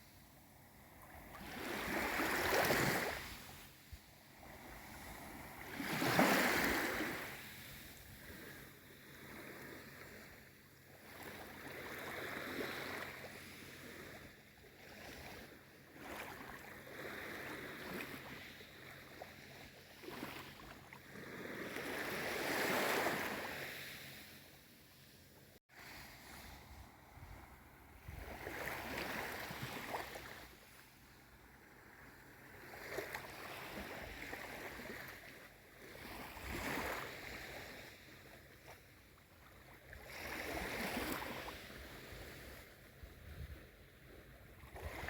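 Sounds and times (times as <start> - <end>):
gentle sea waves washing: 0.0 - 45.0.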